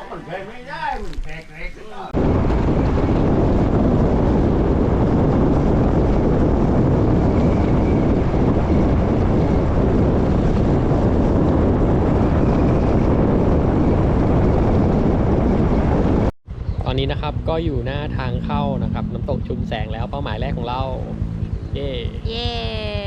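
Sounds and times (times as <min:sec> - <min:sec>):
wind buffeting microphone: 0:02.0 - 0:23.0
road noise: 0:02.2 - 0:22.3.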